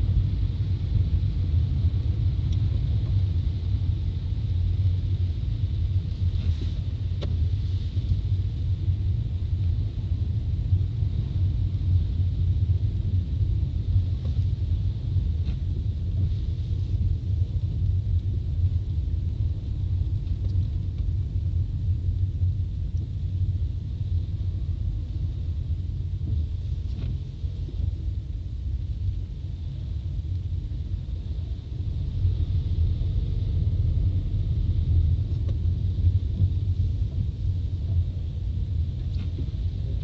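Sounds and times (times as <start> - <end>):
car driving heard from inside: 0.0 - 40.0.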